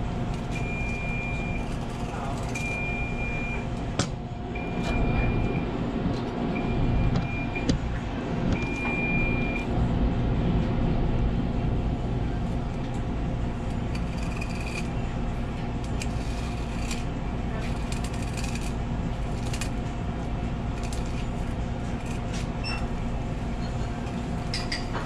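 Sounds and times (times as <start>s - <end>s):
low hum of kitchen equipment: 0.0s - 25.0s.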